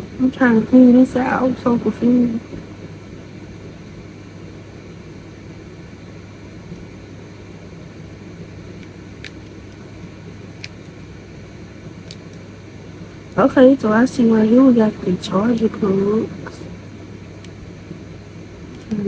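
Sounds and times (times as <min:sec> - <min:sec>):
room hum and hiss: 0:00.0 - 0:19.0.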